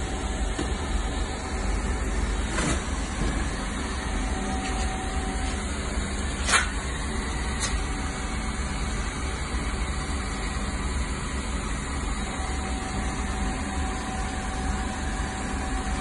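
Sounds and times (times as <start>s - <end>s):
steady mechanical hum with hiss: 0.0s - 16.0s.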